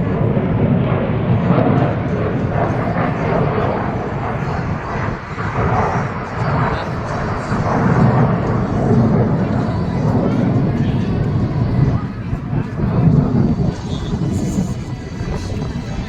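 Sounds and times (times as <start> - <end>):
crowd voices: 0.0 - 16.0
fighter jets rushing: 0.0 - 16.0.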